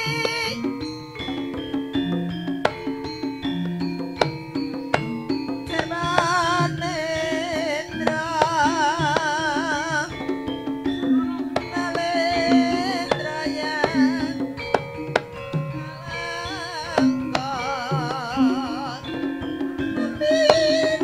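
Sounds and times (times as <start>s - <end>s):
hand drum strokes: 0.0s - 21.0s
high wavering melody: 0.0s - 21.0s.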